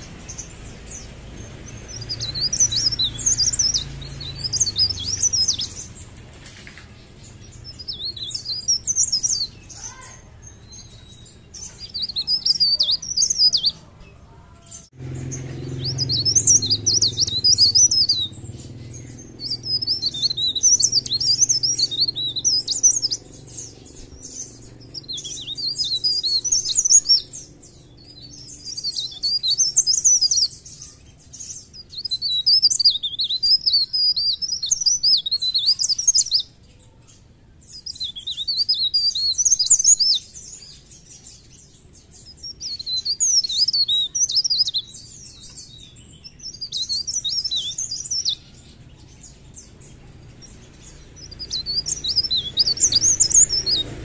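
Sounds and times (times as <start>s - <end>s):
warbler twittering: 0.0s - 54.0s.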